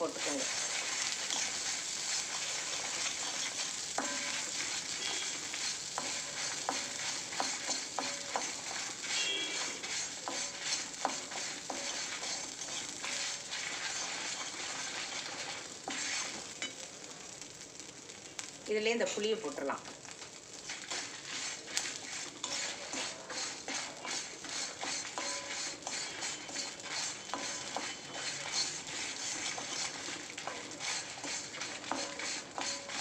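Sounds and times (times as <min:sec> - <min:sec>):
spatula scraping and tapping pan: 0:00.0 - 0:16.9, 0:20.6 - 0:33.0
chillies and garlic sizzling: 0:00.0 - 0:33.0.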